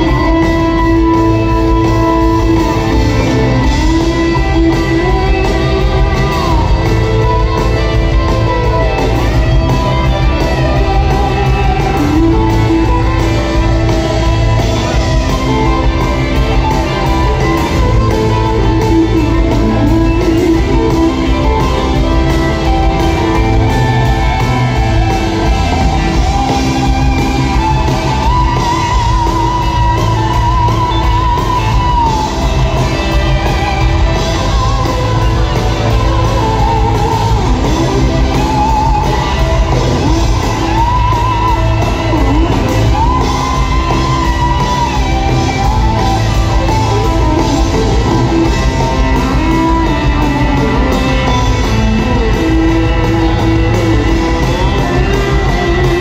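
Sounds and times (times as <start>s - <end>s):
live band playing guitar-led song: 0.0s - 56.0s.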